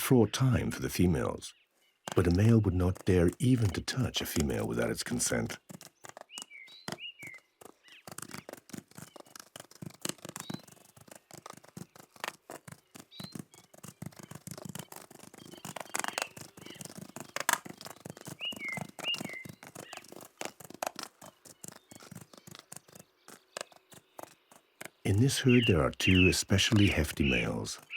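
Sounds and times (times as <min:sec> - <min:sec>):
small bird chirping: 0:00.5 - 0:27.9
patter of clicks and crunches: 0:02.0 - 0:27.9.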